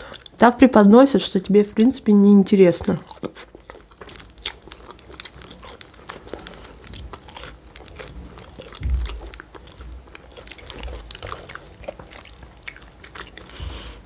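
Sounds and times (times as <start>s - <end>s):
chewing soft pastry: 0.0s - 14.0s.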